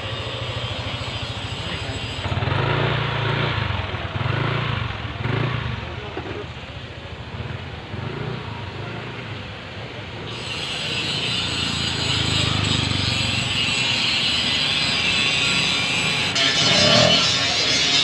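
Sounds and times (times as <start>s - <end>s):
car and motorcycle engines rumbling: 0.0s - 18.0s.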